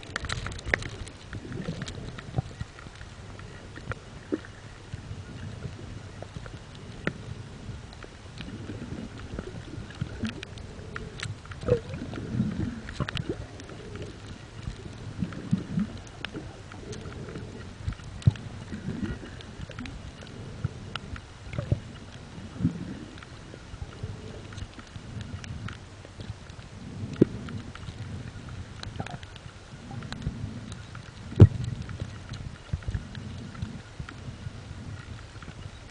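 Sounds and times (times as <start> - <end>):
muffled underwater water wash: 0.0 - 35.9
sharp underwater clicks: 0.0 - 35.9.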